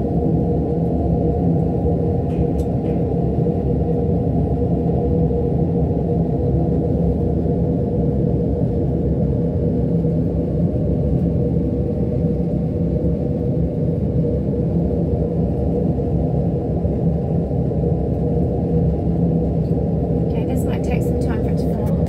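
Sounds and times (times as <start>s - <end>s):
extraction fan rumble: 0.0s - 22.0s
faint hum: 0.0s - 22.0s.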